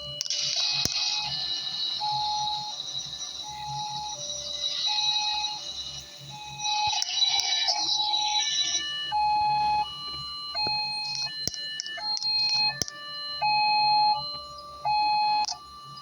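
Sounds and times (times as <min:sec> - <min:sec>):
electronic siren tones: 0:00.0 - 0:16.0.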